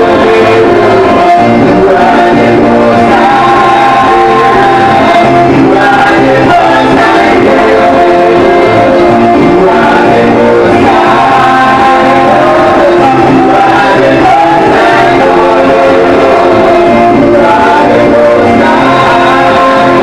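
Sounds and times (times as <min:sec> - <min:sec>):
voices singing worship music: 0:00.0 - 0:20.0.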